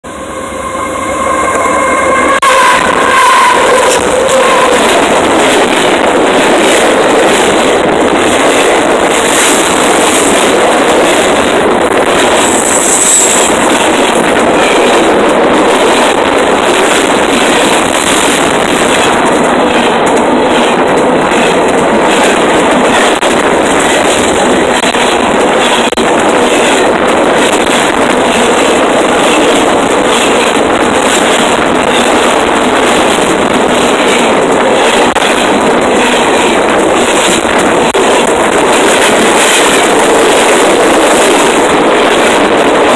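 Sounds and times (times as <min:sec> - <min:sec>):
train rumbling and rattling overhead: 0:00.0 - 0:42.9
train wheels clicking: 0:00.0 - 0:42.9.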